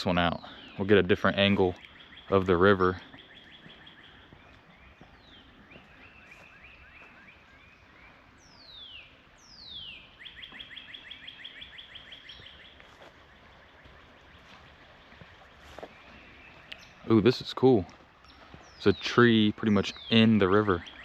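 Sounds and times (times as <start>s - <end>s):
songbirds chattering trills: 0.0s - 21.0s.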